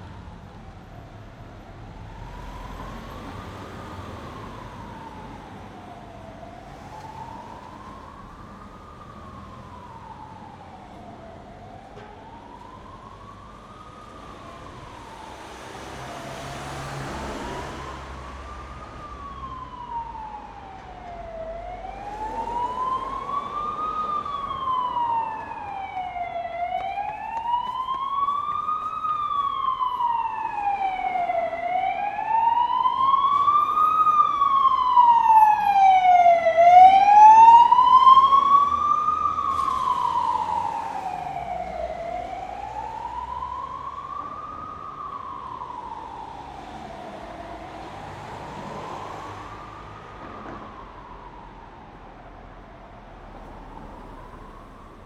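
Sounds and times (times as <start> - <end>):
city traffic: 0.0 - 55.0
emergency siren wailing: 1.6 - 55.0.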